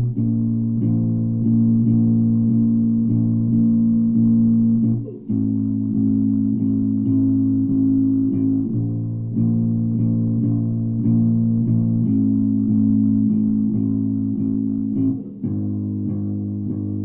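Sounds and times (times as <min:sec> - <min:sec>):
electric bass plucked notes: 0:00.0 - 0:17.0.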